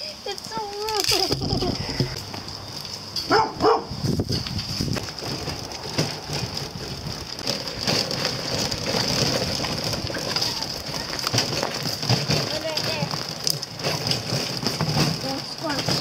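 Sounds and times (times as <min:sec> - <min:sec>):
tyres crunching over gravel: 0:00.0 - 0:16.0
wagon cart rattling: 0:00.0 - 0:16.0.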